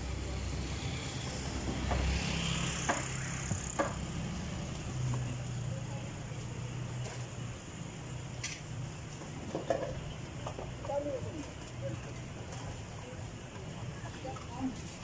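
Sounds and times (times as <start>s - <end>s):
vehicle engine humming: 0.0s - 14.7s.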